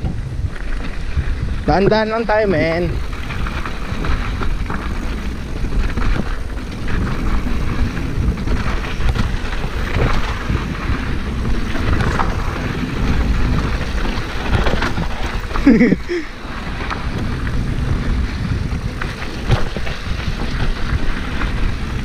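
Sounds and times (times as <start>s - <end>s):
bike rattling over stones: 0.0s - 22.0s
tyres rumbling on gravel: 0.0s - 22.0s
wind buffeting microphone: 0.0s - 22.0s.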